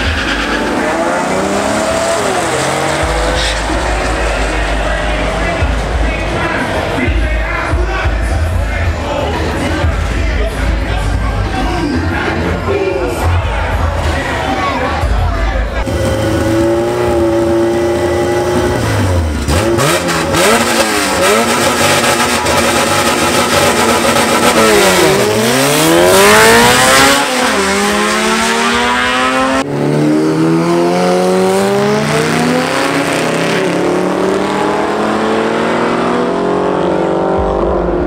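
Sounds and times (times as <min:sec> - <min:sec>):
racing car engines at full throttle: 0:00.0 - 0:38.0.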